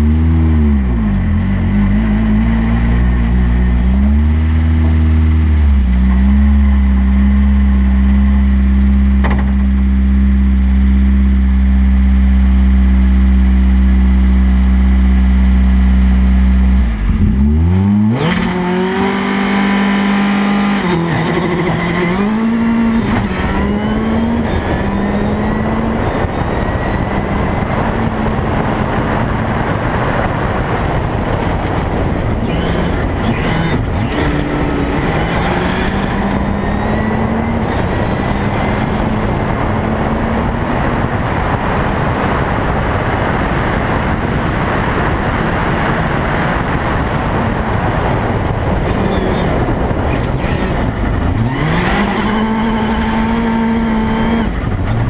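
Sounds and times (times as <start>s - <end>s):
car engine accelerating: 0.0s - 55.0s
loud steady drone: 0.0s - 55.0s.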